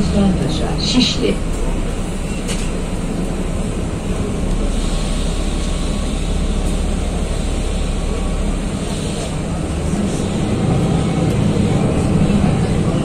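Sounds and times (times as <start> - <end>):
bus engine hum and road noise: 0.0 - 13.0.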